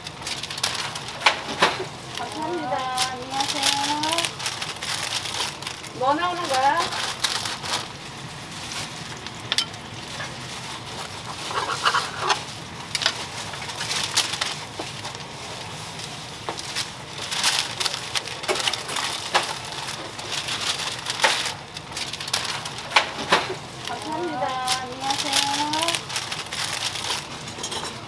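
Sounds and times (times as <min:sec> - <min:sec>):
griddle frying sizzle: 0:00.0 - 0:28.0.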